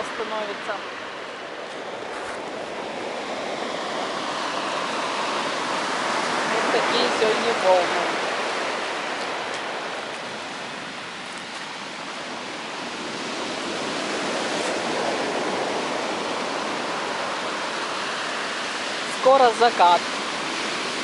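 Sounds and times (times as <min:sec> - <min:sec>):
surf washing over pebbles: 0:00.0 - 0:21.0.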